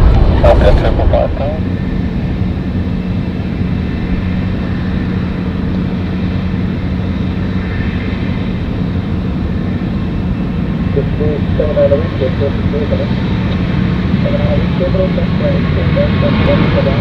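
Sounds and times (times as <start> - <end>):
jet engine roar on takeoff: 0.0 - 17.0.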